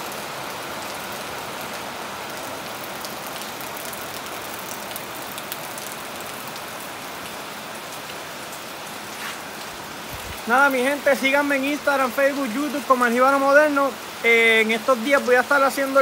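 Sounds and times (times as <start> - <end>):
rain on a metal roof: 0.0 - 16.0.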